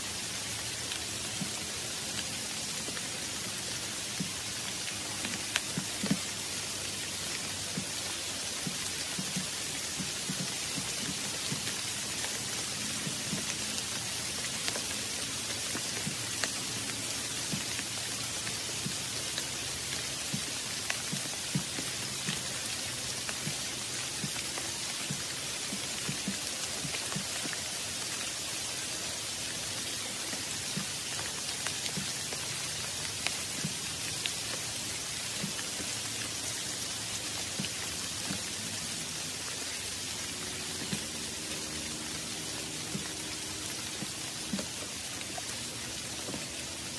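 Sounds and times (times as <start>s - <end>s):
steady rain hiss: 0.0s - 46.9s
raindrop taps: 0.9s - 3.1s, 4.1s - 6.4s, 7.6s - 28.8s, 30.0s - 39.8s, 40.7s - 46.7s.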